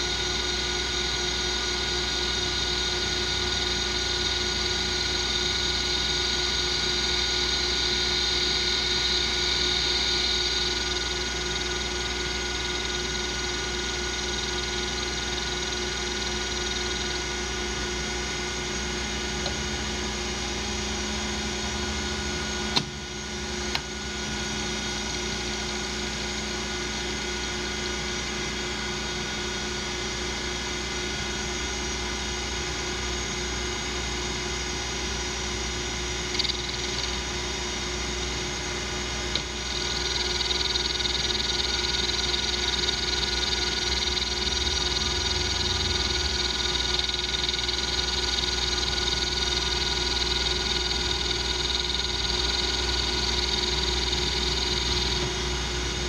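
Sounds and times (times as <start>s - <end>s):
lathe motor and gear whine: 0.0s - 56.0s.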